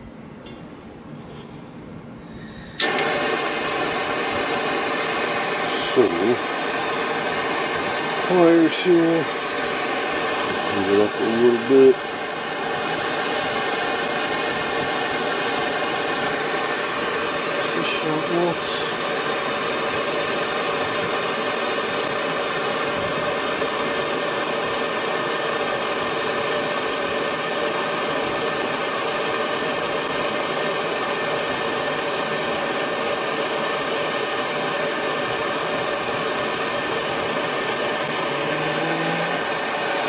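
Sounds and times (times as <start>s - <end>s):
torch flame hissing: 2.3s - 40.0s.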